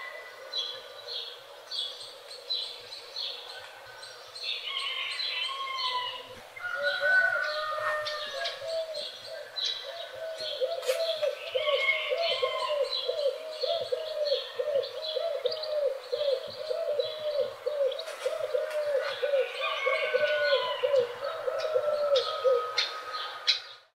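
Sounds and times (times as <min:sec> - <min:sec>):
birds chirping and whistling: 0:04.0 - 0:23.9.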